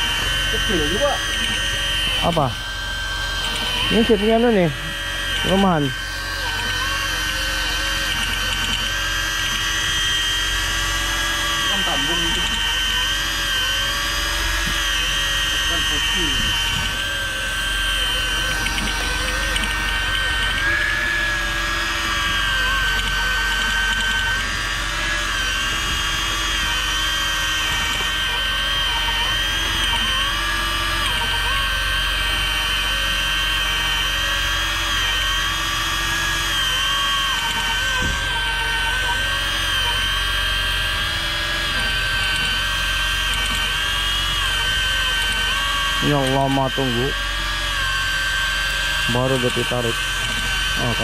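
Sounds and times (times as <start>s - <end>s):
low hum: 0.0s - 51.0s
motor whining high-pitched: 0.0s - 51.0s.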